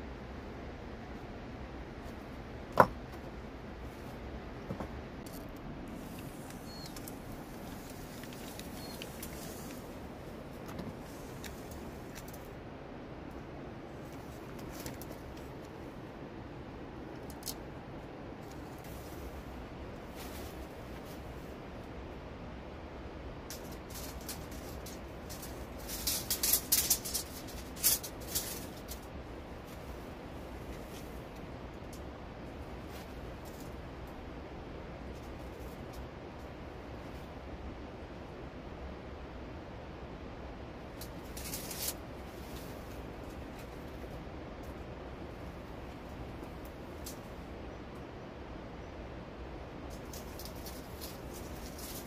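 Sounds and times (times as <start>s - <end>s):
low background noise: 0.0s - 52.0s
low outdoor background noise: 0.0s - 52.0s.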